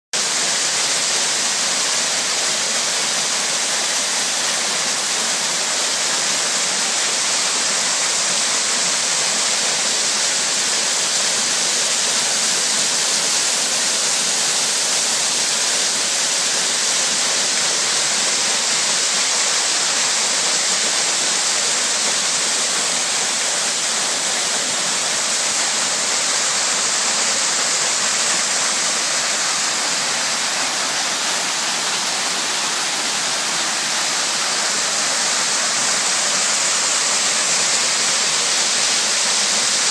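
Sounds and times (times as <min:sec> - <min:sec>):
waterfall rushing into pond: 0:00.2 - 0:39.9.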